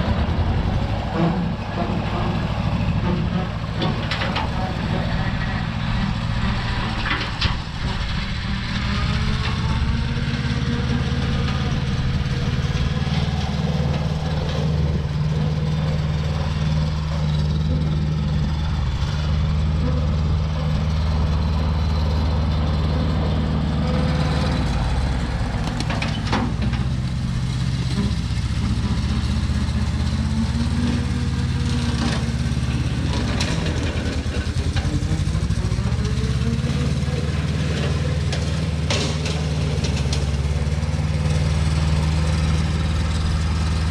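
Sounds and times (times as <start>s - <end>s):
clanks and rattles: 0.0s - 43.9s
tractor diesel engine running: 0.0s - 43.9s.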